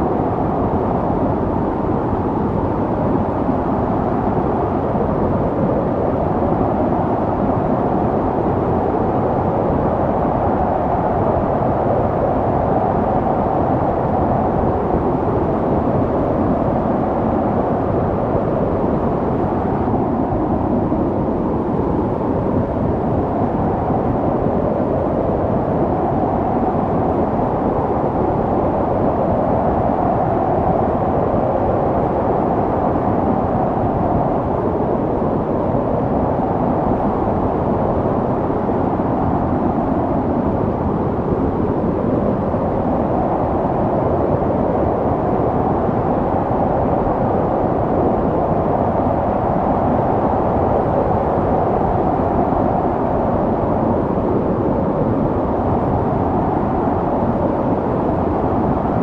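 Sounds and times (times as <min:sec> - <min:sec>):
snowstorm wind blowing: 0:00.0 - 0:59.0.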